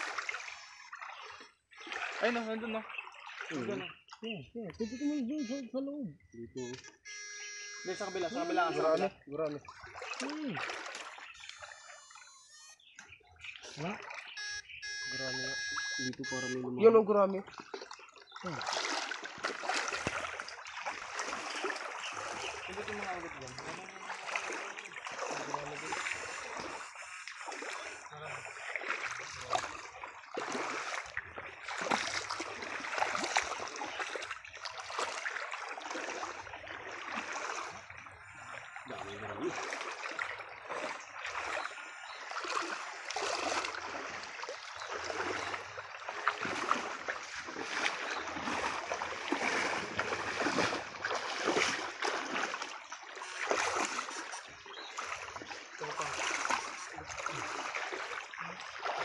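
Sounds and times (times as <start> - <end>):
stream running water: 0.0 - 59.0
water splashing from wading: 0.0 - 59.0.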